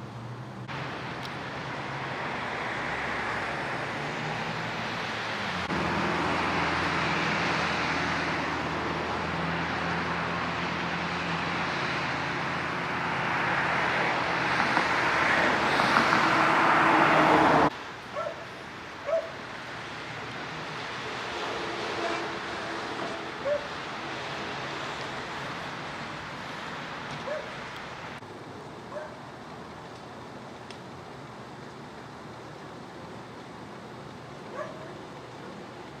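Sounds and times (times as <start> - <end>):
rushing noise: 0.0 - 29.4.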